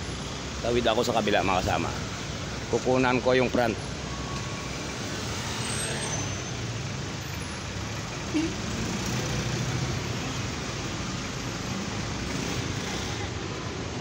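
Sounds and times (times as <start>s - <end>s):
traffic engines rumbling: 0.0s - 14.0s.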